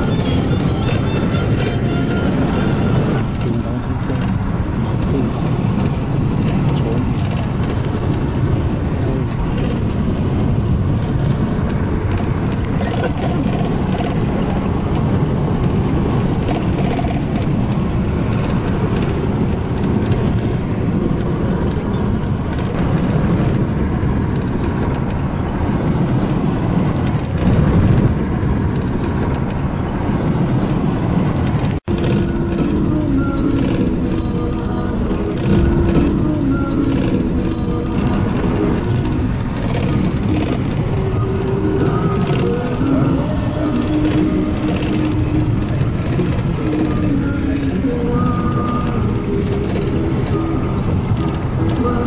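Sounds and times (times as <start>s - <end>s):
vehicle engine and road noise: 0.0s - 52.0s.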